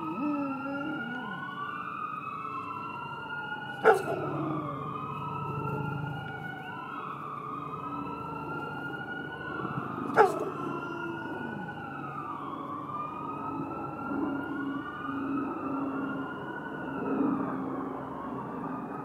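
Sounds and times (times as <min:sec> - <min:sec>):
sirens wailing: 0:00.0 - 0:19.0.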